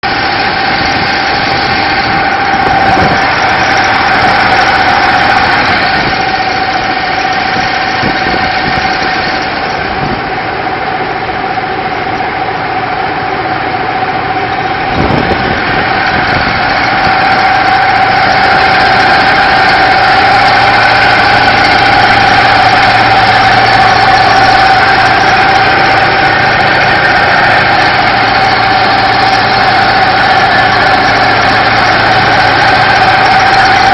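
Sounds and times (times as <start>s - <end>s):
boat engine running: 0.0s - 33.9s
high gearbox whine: 0.0s - 33.9s.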